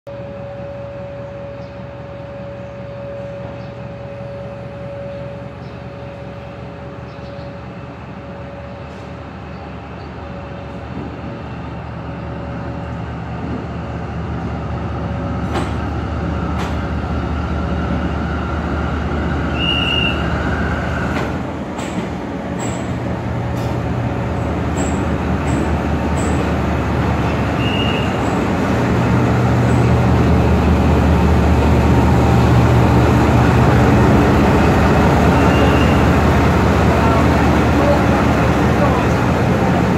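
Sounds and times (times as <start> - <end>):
locomotive engine running: 0.1 - 39.9.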